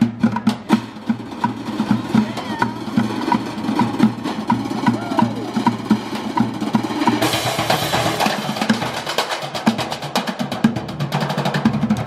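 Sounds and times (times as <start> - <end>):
drum beat: 0.0 - 12.0.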